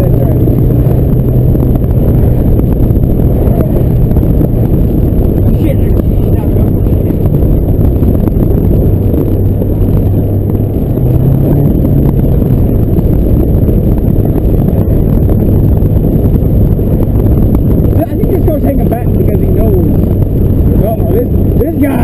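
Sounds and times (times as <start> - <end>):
diesel engine drone: 0.0 - 22.0
road and wind noise: 0.0 - 22.0.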